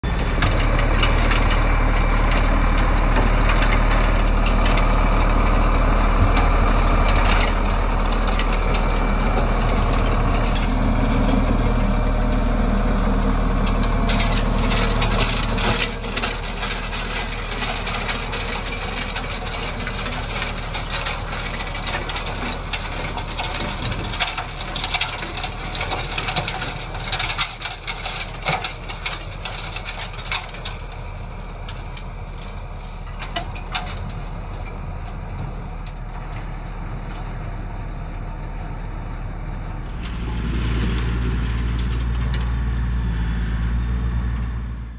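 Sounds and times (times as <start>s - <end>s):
snow and ice clattering in blower: 0.0s - 43.2s
tractor diesel engine running: 0.0s - 44.9s.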